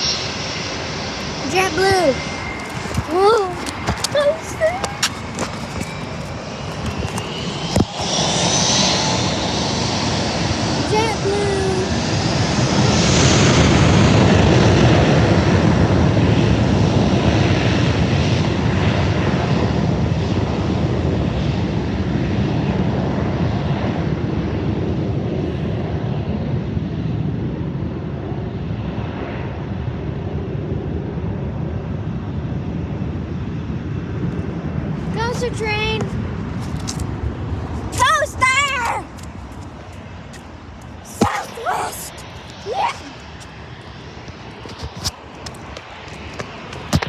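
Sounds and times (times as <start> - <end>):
jet airliner engines roaring: 0.0 - 47.0.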